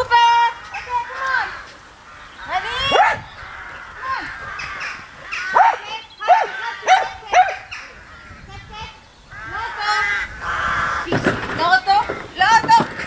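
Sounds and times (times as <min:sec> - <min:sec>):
animal calling: 0:00.0 - 0:13.0.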